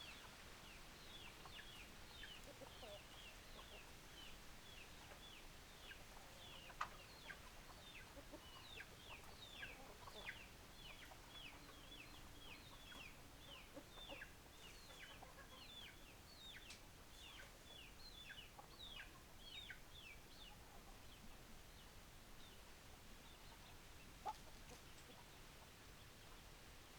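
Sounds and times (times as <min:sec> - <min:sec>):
chickens calling: 0:01.2 - 0:22.5, 0:23.2 - 0:26.3.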